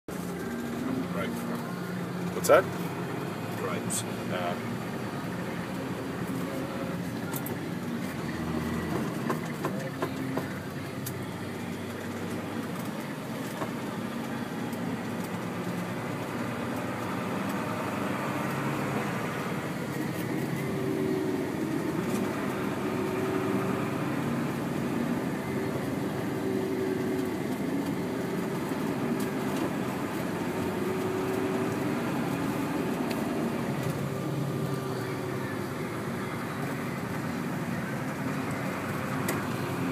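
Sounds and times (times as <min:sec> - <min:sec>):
road noise: 0:00.0 - 0:39.9
vehicle engine drone: 0:00.1 - 0:39.9.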